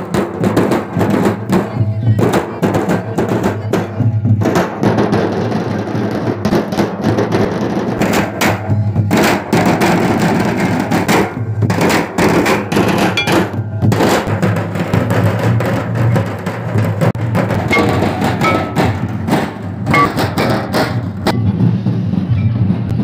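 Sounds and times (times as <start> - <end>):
barrel drums playing dance rhythm: 0.0 - 21.6.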